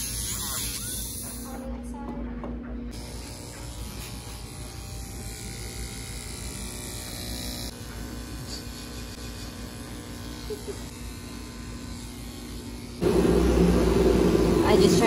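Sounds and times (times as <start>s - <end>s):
electric pet trimmer buzzing: 0.0s - 1.6s, 2.9s - 15.0s.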